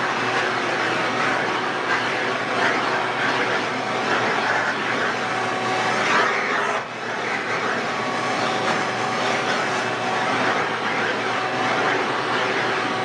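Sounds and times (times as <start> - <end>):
shop vacuum on carpet: 0.0 - 13.0.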